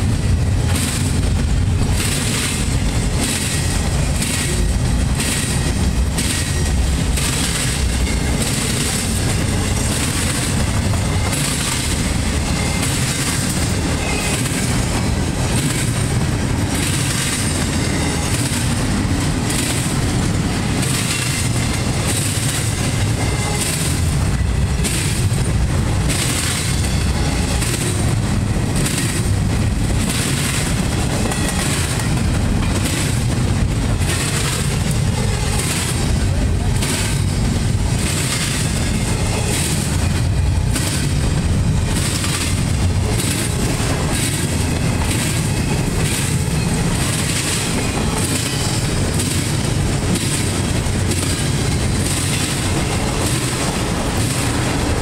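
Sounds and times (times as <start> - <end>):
train wheel rumble: 0.0 - 55.0
wheels clickety-clack over rail joints: 0.0 - 55.0.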